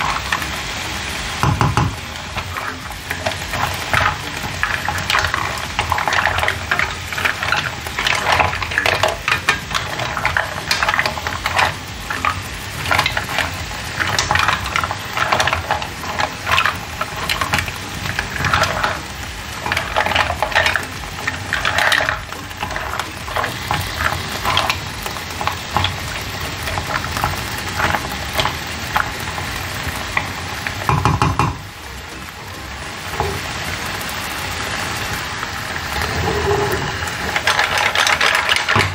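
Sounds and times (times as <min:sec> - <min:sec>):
butter sizzling: 0:00.0 - 0:38.9
mussel shells clattering in a pan: 0:00.0 - 0:38.9.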